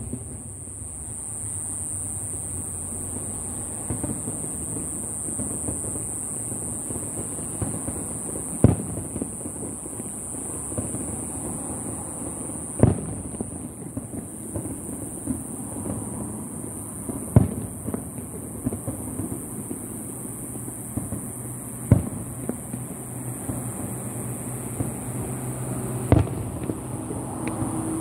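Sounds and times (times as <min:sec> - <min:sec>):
fireworks popping and crackling: 0:00.0 - 0:28.0
loud firework booms: 0:03.8 - 0:28.0.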